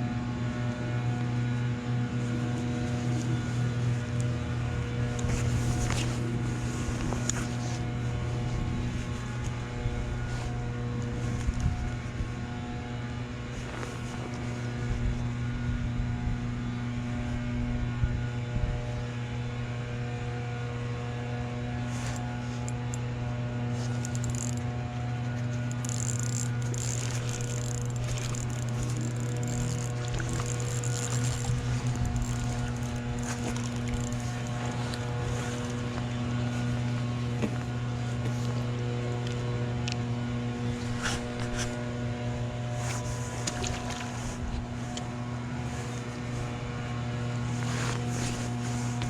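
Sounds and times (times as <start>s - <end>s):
motor humming: 0.0s - 49.0s.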